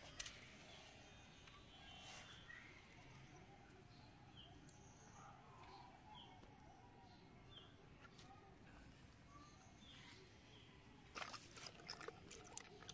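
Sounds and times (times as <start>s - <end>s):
faint bird chirp: 0.0s - 11.1s.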